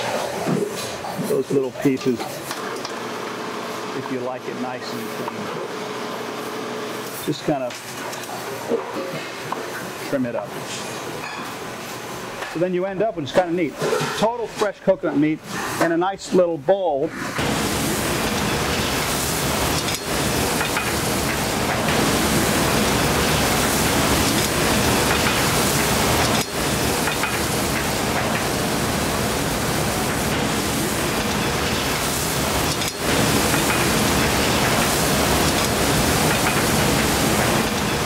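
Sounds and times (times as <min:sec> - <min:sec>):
loud static hiss: 0:03.4 - 0:08.0, 0:09.9 - 0:38.0.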